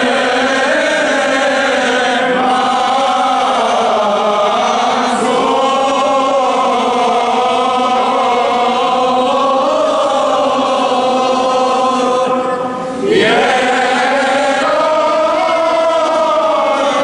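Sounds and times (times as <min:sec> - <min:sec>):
choir chanting a hymn: 0:00.0 - 0:17.0.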